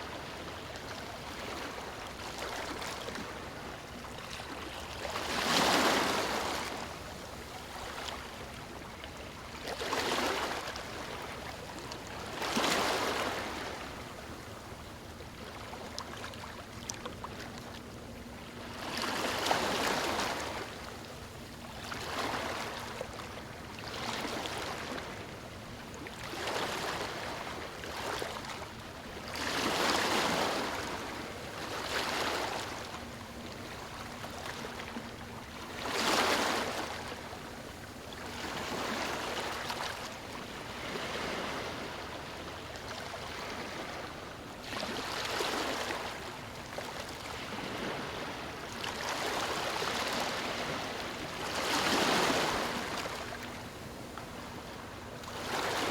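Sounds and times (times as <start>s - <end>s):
small waves on stony shore: 0.0s - 14.4s, 18.6s - 55.9s.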